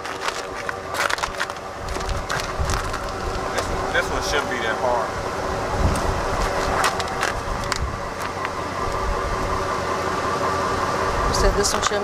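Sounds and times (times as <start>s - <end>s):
steady whine: 0.0s - 12.0s
truck engine running: 0.0s - 12.0s.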